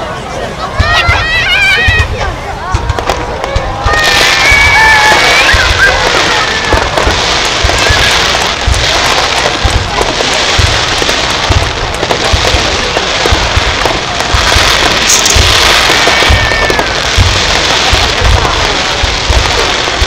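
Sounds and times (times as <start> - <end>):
fireworks crackling: 0.0 - 20.0
fireworks shell bursts booming: 0.8 - 20.0.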